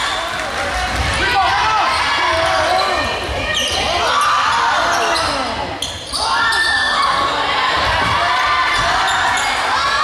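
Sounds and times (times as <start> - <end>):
crowd shouting and cheering: 0.0 - 10.0.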